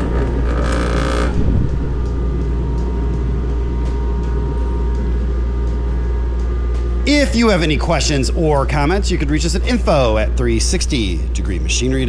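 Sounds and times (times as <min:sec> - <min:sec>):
air compressor humming: 0:00.0 - 0:12.0.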